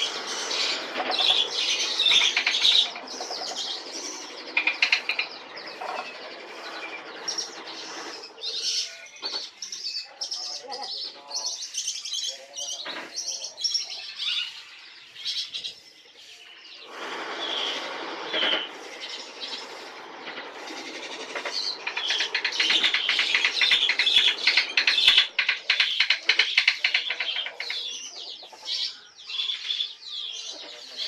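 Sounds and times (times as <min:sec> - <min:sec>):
lower repeated bird calls: 0:00.0 - 0:31.0
songbirds chirping: 0:00.0 - 0:31.0.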